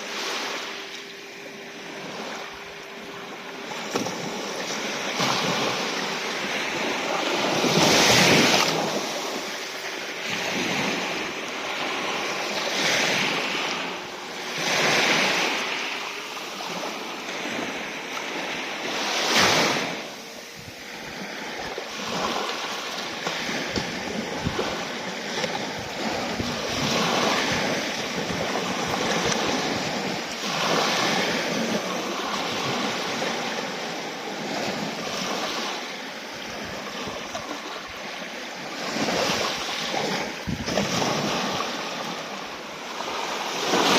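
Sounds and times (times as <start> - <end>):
waves breaking and washing in: 0.0 - 43.9.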